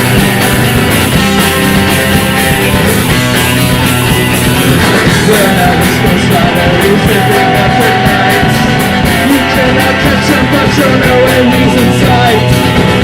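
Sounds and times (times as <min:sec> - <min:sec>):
drums steady beat: 0:00.0 - 0:13.0
rock band playing: 0:00.0 - 0:13.0.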